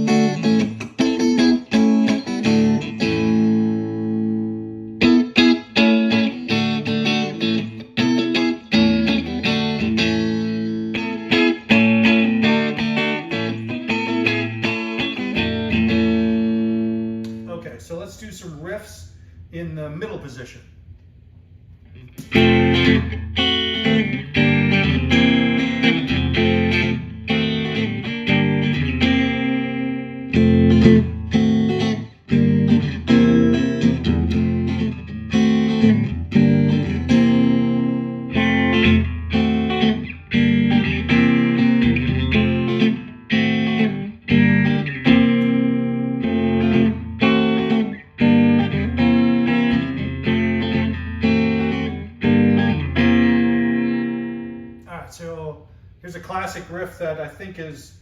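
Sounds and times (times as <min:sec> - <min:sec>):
electric guitar riffs: 0:00.0 - 0:17.5, 0:22.0 - 0:55.0.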